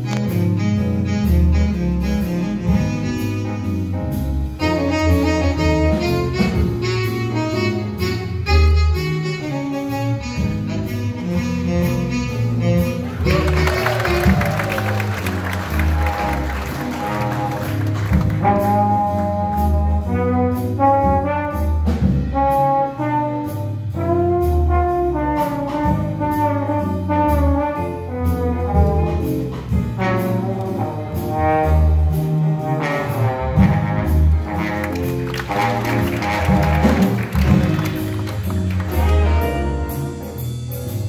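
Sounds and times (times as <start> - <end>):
jazz big band playing: 0.0 - 41.0.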